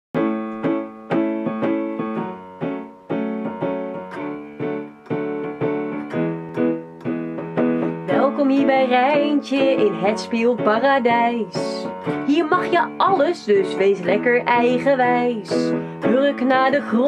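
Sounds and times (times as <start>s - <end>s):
piano chords: 0.2s - 17.0s.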